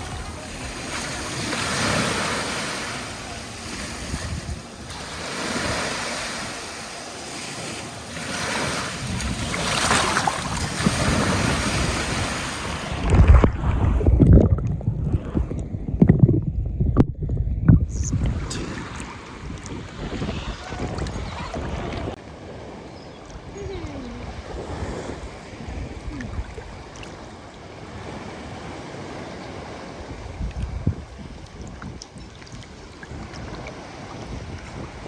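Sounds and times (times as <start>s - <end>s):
sea waves washing: 0.0s - 35.0s
wind buffeting microphone: 0.0s - 35.0s.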